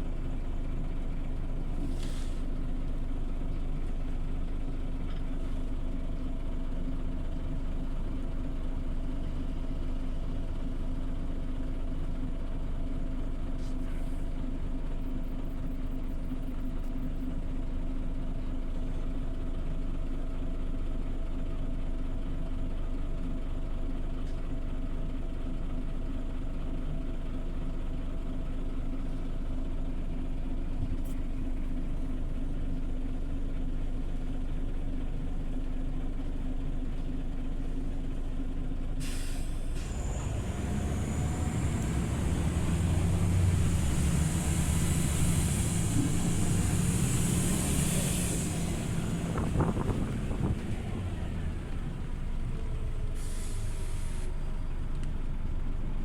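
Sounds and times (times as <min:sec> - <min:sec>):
bus engine idling: 0:00.0 - 0:56.0.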